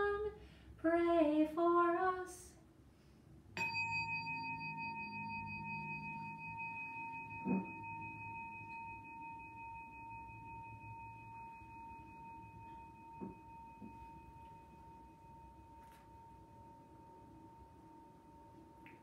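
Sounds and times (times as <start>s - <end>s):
singing bowl ringing: 3.6s - 19.0s.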